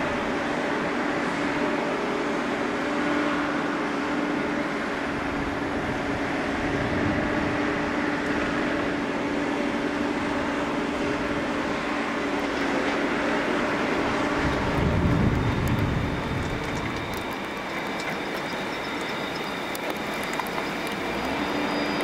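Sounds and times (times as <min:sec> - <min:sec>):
diesel locomotive engines droning: 0:00.0 - 0:22.0.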